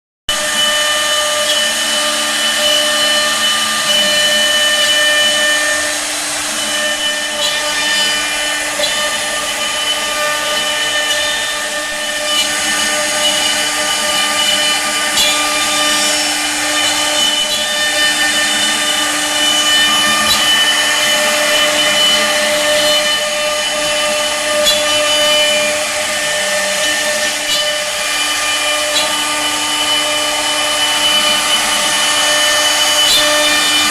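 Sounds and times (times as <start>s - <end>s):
router spindle whine: 0.3s - 33.9s.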